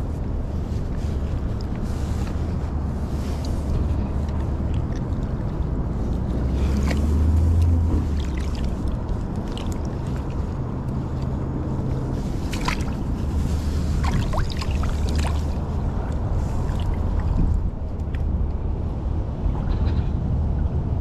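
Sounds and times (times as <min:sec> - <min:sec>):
wind on microphone: 0:00.0 - 0:21.0
flowing river water: 0:00.9 - 0:18.4.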